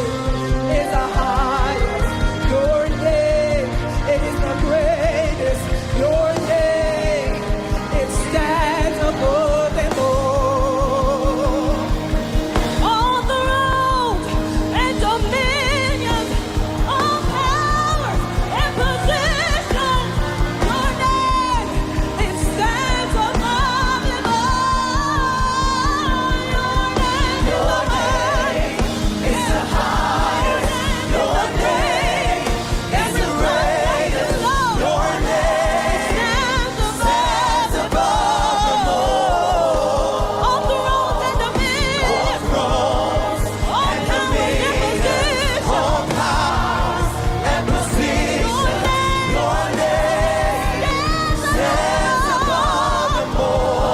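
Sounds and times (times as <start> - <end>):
band with steady beat: 0.0 - 53.9
voices singing with vibrato: 0.0 - 53.9.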